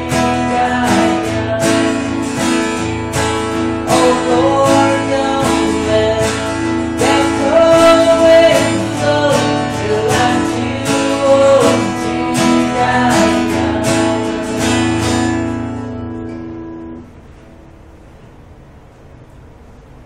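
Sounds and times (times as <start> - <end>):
acoustic guitar strumming chords: 0.0 - 18.5.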